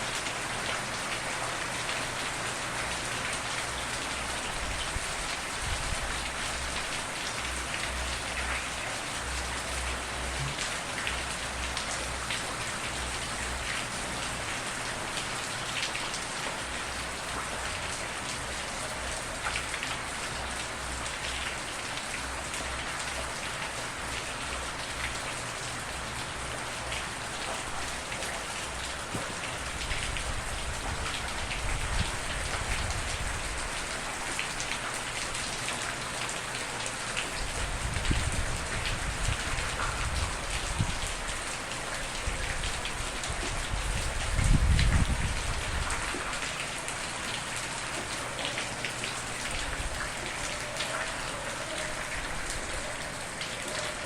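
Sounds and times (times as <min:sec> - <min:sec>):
dense rainfall: 0:00.0 - 0:54.0.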